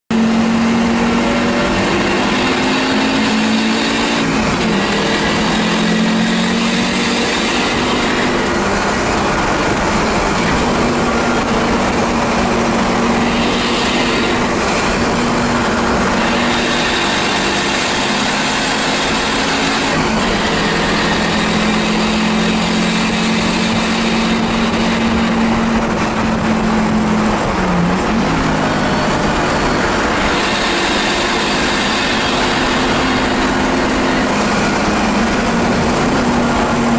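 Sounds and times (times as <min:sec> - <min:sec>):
race car engine at high revs: 0:00.1 - 0:36.9.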